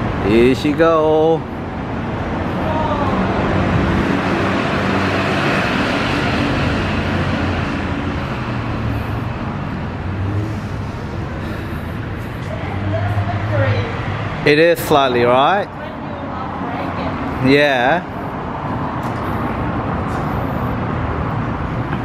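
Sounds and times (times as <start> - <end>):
vehicle passing by: 1.4 - 22.0.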